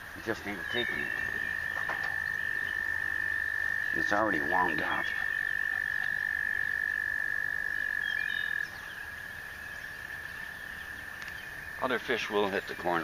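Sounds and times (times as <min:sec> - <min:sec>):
frog trilling: 0:00.2 - 0:13.0.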